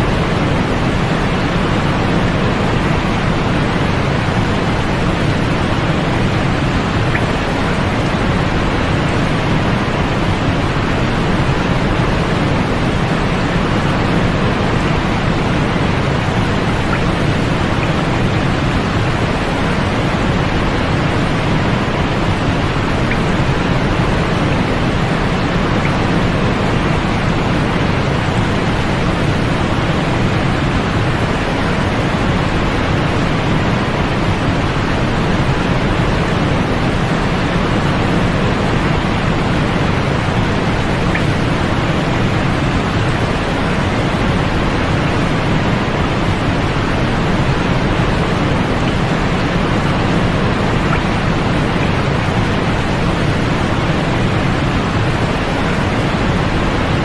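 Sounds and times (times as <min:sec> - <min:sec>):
continuous pink noise hiss: 0:00.0 - 0:57.0.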